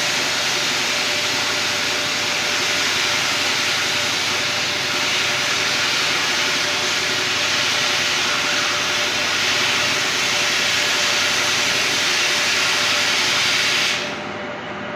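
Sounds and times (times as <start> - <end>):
loud steady hiss: 0.0 - 14.2.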